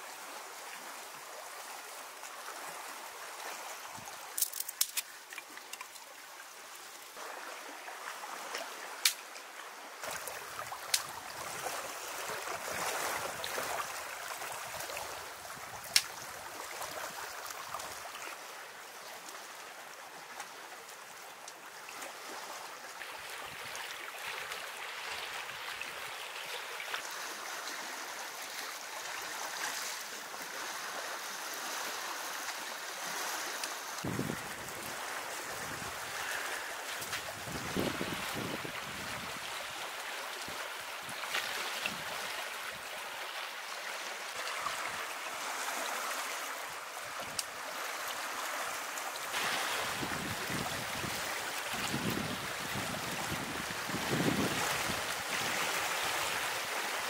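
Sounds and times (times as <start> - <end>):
moving water: 0.0 - 57.0.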